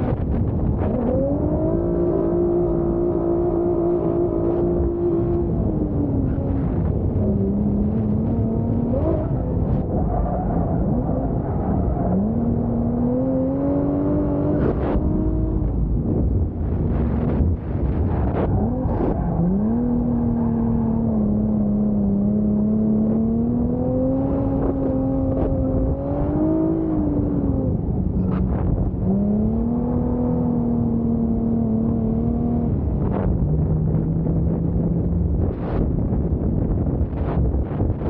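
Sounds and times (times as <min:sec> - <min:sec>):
car engine at high revs: 0:00.0 - 0:38.0.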